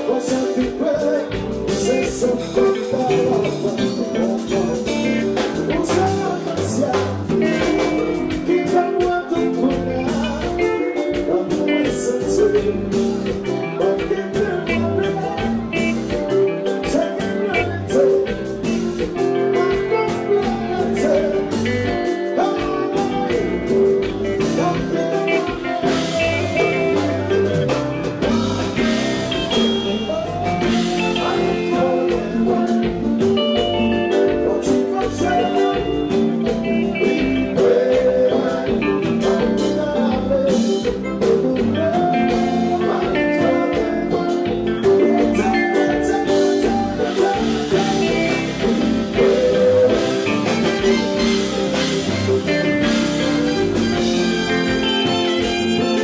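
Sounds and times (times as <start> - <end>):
electric guitar: 0.0 - 56.0
live band music: 0.0 - 56.0
man singing into a microphone: 0.0 - 56.0.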